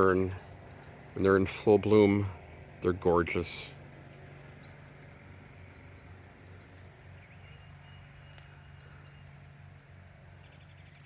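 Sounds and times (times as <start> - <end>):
distant lawn mower drone: 0.0 - 11.0
faint chirps: 0.0 - 11.0.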